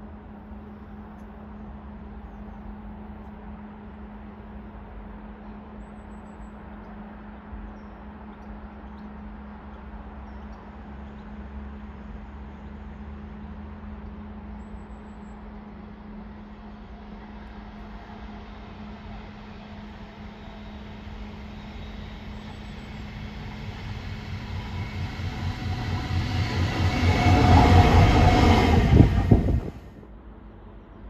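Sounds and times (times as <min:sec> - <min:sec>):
distant diesel locomotive rumble: 0:00.0 - 0:31.0.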